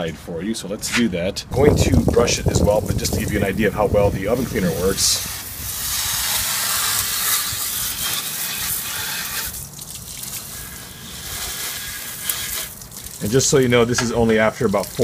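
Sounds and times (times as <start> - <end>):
hose spraying water on plastic: 1.8 - 15.0.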